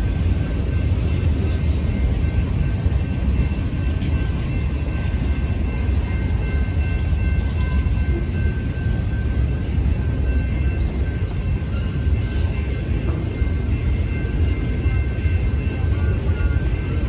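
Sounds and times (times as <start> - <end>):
high ringing tones: 0.0 - 17.0
train wheels rumbling on rails: 0.0 - 17.0.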